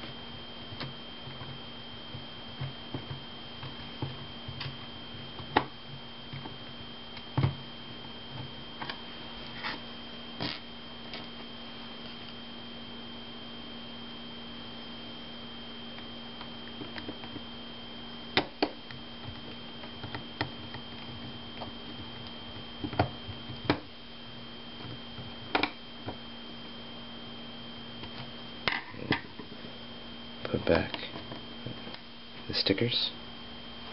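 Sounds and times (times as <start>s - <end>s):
faint high whine: 0.0s - 33.9s
steady electrical hum: 0.0s - 33.9s.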